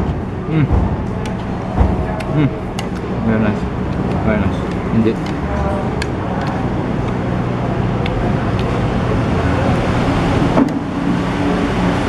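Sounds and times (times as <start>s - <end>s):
faint background voices: 0.0s - 10.6s
low hum: 0.0s - 12.0s
road traffic rumble: 0.0s - 12.0s.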